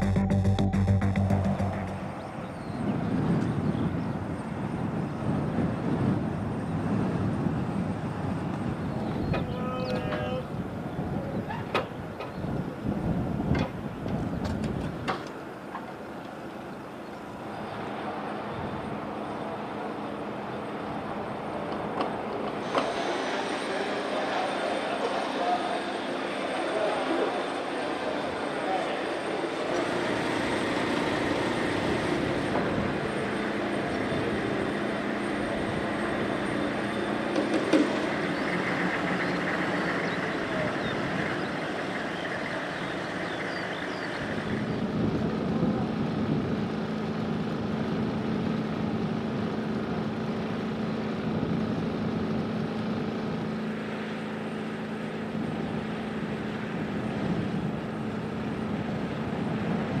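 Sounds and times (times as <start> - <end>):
helicopter turbine whine: 0.0 - 60.0.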